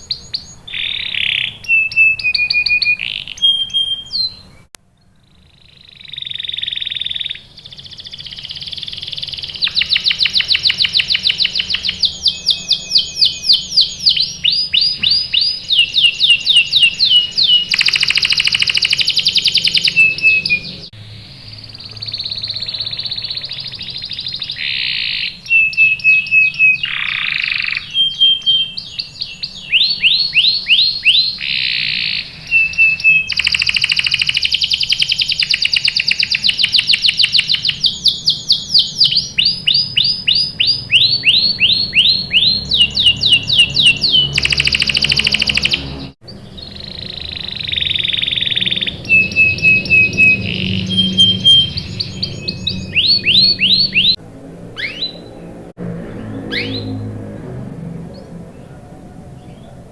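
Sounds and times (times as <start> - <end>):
canary singing trills: 0.0 - 57.2, 57.8 - 59.9.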